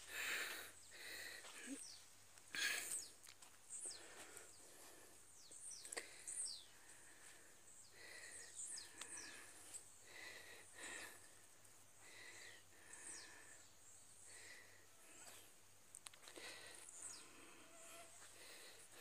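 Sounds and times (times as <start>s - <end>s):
faint bird calls: 0.0s - 11.4s, 12.0s - 19.0s.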